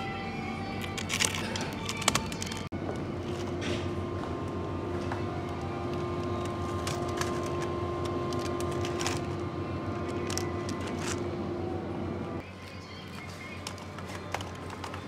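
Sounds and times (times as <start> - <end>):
refrigerated display case humming: 0.0 - 15.0.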